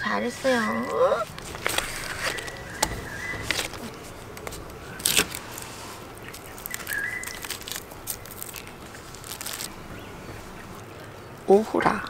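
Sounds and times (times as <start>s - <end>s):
packaging crinkling and rustling: 0.4s - 10.8s.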